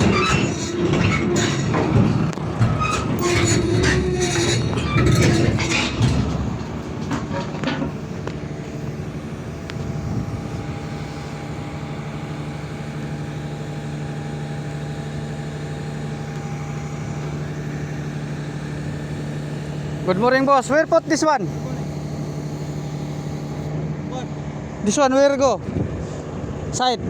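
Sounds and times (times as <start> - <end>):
heavy diesel engine running: 0.0 - 26.7.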